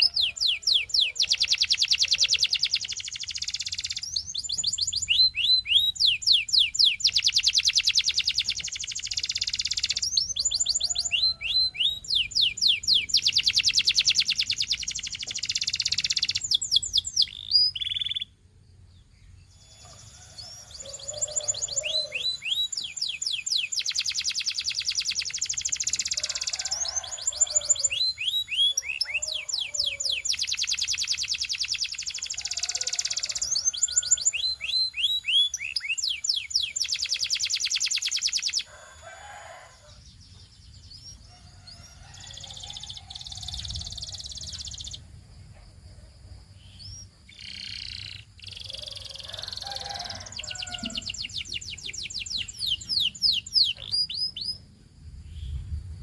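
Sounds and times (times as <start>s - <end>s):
canary singing trills: 0.0s - 18.4s, 19.0s - 45.1s, 46.6s - 54.7s.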